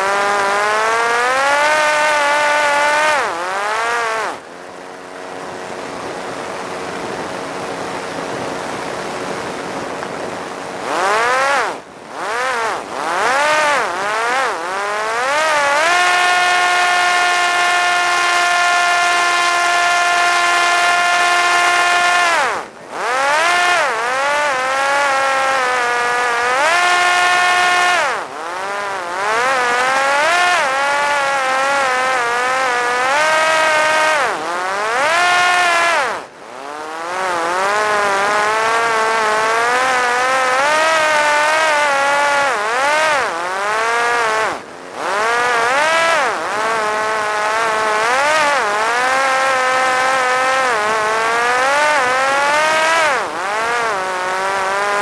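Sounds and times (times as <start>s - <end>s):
drone motor and propeller whine: 0.0s - 55.0s.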